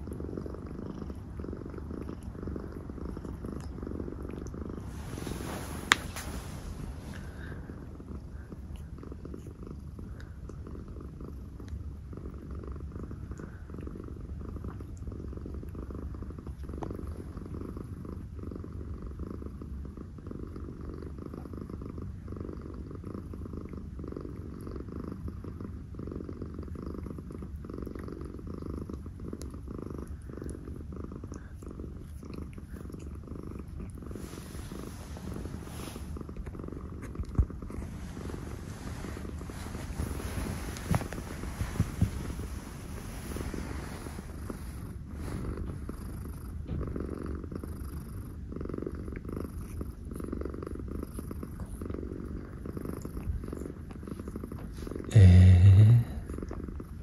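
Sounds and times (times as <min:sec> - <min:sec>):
soft rustle: 0:00.0 - 0:19.6, 0:20.2 - 0:55.2
cat purring: 0:00.0 - 0:57.0.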